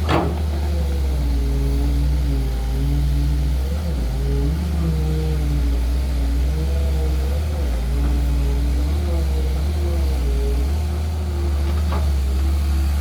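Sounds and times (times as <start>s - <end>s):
excavator diesel engine rumbling: 0.0s - 13.0s.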